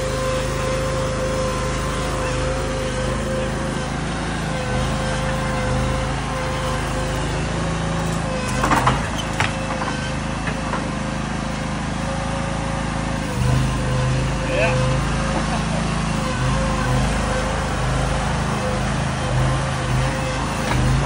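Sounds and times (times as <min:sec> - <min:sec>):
machine whine: 0:00.0 - 0:21.0
small engine running: 0:00.0 - 0:21.0.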